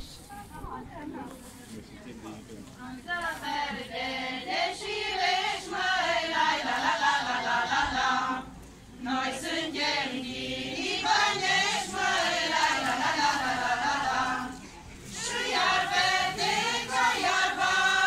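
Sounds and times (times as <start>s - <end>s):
women singing folk song: 2.8s - 18.0s.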